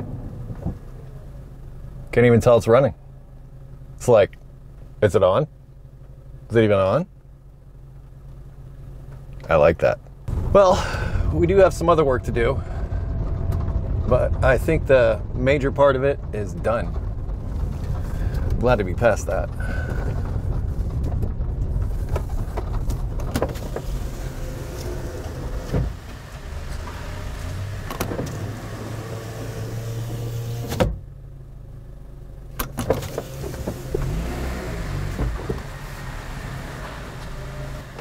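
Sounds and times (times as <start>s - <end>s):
car rumble from inside cabin: 0.0s - 38.0s.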